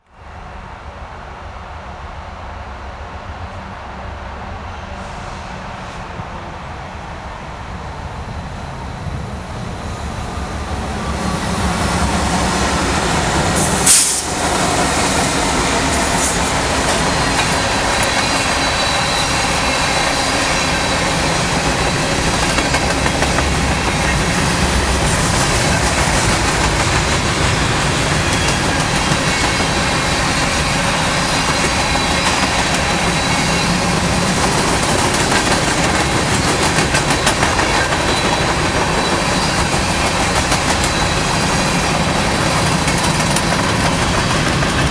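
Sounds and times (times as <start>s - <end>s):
train wheels rumbling on rail: 0.0s - 44.9s
high wheel squeal: 9.0s - 44.9s.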